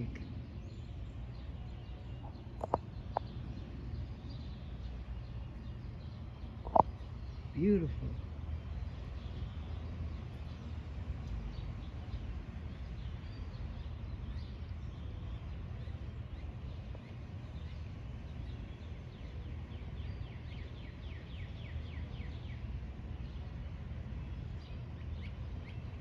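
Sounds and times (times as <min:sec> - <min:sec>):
birds chirping: 0:00.0 - 0:26.0
low outdoor rumble: 0:00.0 - 0:26.0.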